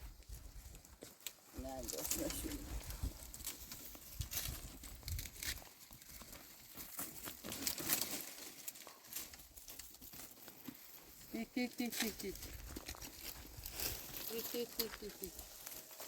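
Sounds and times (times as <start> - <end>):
rustling and crackling: 0.0 - 16.0.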